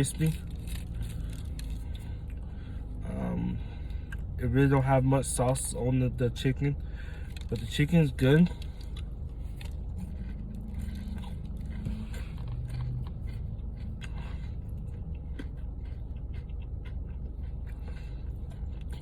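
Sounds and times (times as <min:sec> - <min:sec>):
person chewing crunchy food: 0:00.0 - 0:04.4, 0:07.0 - 0:19.0
steady low hum: 0:00.0 - 0:19.0.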